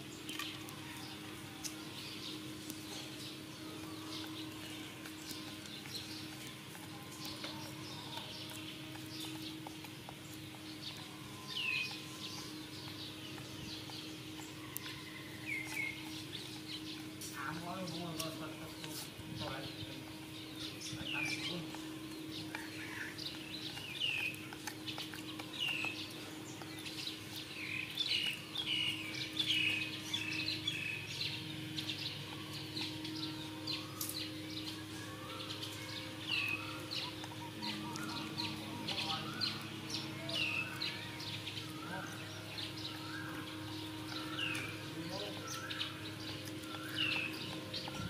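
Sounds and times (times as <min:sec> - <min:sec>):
birds chirping: 0:00.0 - 0:48.0
steady low hum: 0:00.0 - 0:48.0.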